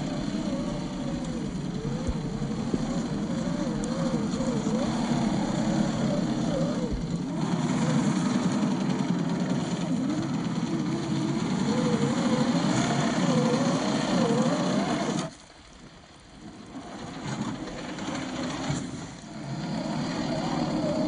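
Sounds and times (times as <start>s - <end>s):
electric motor whining: 0.0s - 15.4s, 17.0s - 21.0s.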